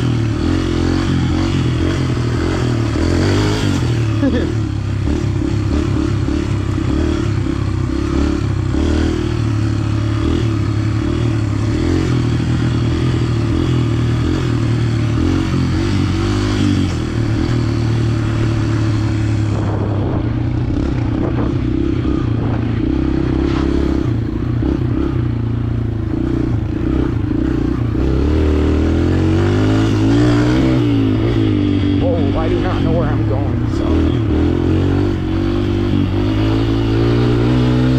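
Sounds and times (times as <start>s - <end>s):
dirt bike engine running: 0.0s - 37.9s.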